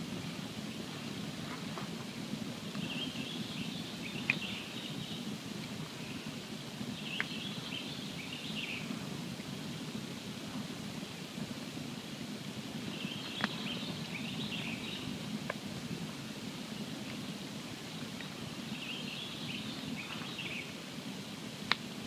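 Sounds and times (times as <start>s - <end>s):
campfire rumbling: 0.0s - 22.0s.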